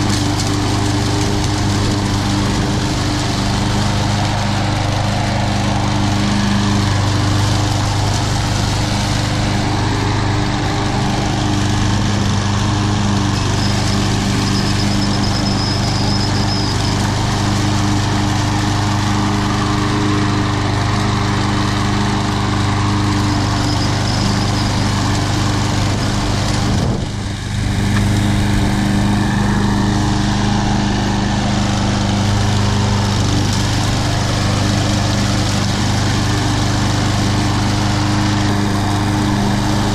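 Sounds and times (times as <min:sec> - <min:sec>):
lawn mower engine cutting grass: 0:00.0 - 0:39.9.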